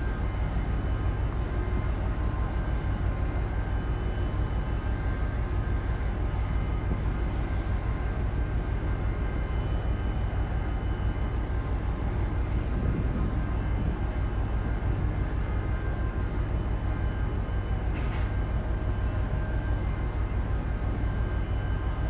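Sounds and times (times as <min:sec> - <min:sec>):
faint whining tones: 0:00.0 - 0:22.0
low machinery rumble: 0:00.0 - 0:22.0.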